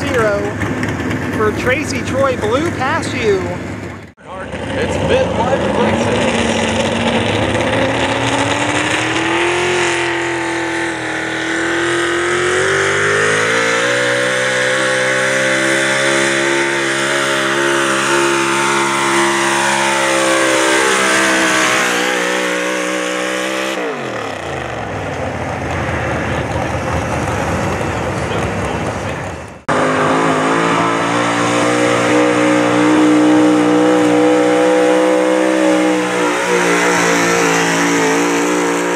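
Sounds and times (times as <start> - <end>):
truck engine running hard: 0.0 - 38.9.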